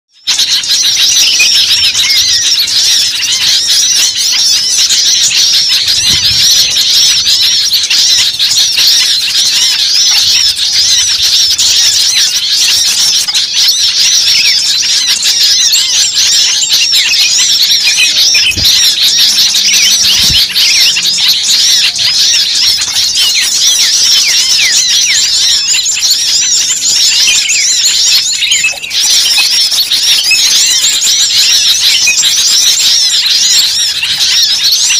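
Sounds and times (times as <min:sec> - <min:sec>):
many small birds chirping: 0:00.0 - 0:34.9.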